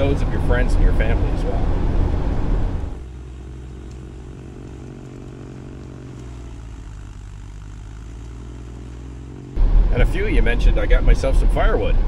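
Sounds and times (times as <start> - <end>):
engine running with deep hum: 0.0 - 12.0.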